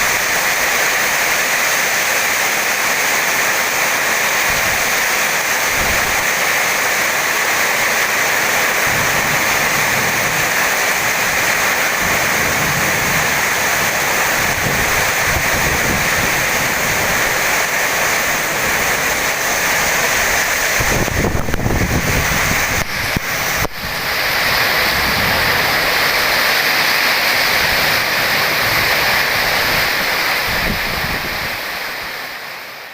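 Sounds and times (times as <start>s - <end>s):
heavy rain pouring: 0.0s - 32.9s
wind: 0.0s - 32.9s.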